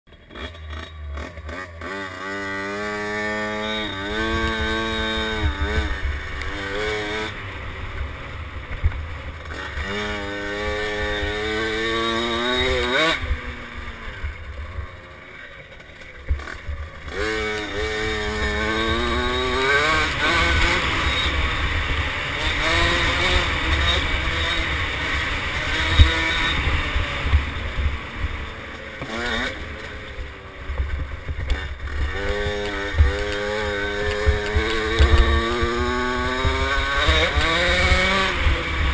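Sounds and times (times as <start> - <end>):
dirt bike engine revving: 0.1 - 38.9.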